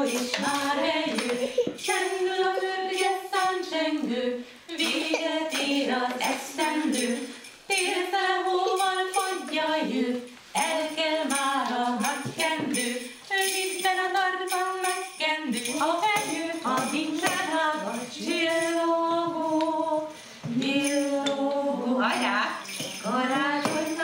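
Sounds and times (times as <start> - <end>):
jingling percussion shaken: 0.0 - 24.0
women singing: 0.0 - 24.0.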